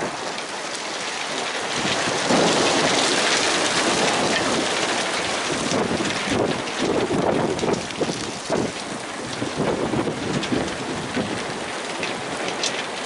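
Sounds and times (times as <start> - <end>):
hail pellets falling on grass: 0.0 - 13.0.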